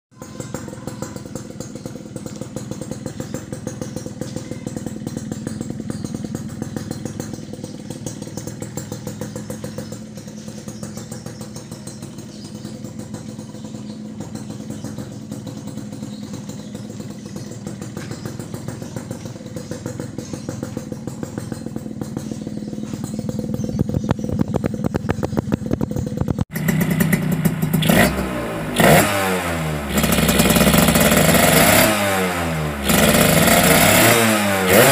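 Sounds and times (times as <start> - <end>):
motorcycle engine idling: 0.1 - 34.9
motorcycle engine revving: 0.1 - 34.9.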